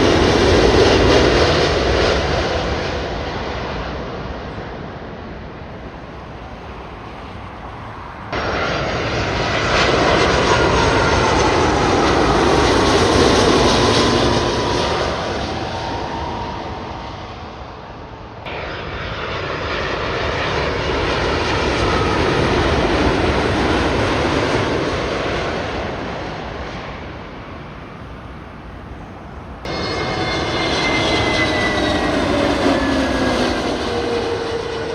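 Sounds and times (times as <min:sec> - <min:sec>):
jet airliners passing: 0:00.0 - 0:34.9.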